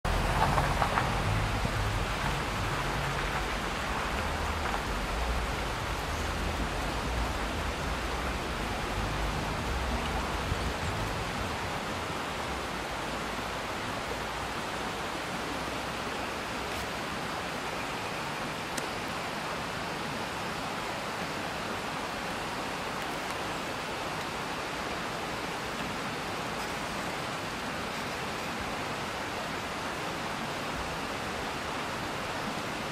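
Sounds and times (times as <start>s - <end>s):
water rushing over stones: 0.1s - 32.9s.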